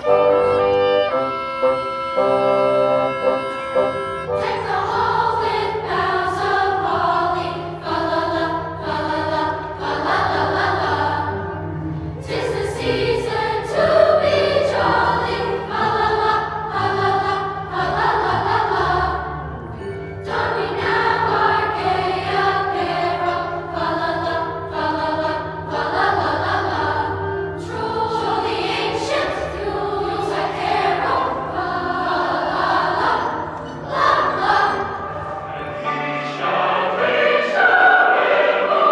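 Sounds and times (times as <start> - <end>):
sustained low accompanying notes: 0.0 - 36.8
children's choir singing: 0.0 - 38.9.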